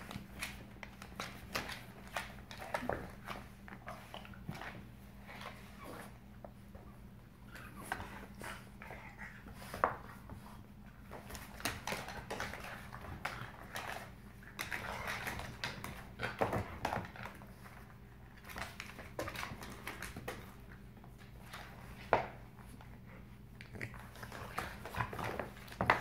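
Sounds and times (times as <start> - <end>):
dogs scuffling on wooden floor: 0.0 - 26.0.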